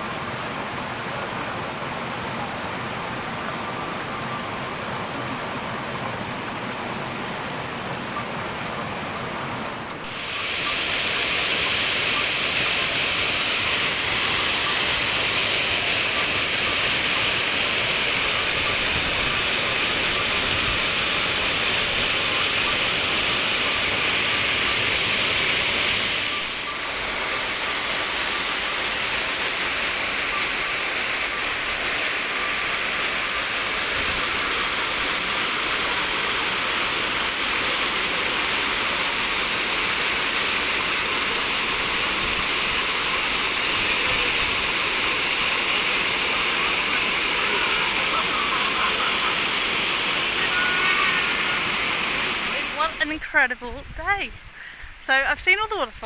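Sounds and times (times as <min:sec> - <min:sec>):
waterfall roaring: 0:00.0 - 0:54.2.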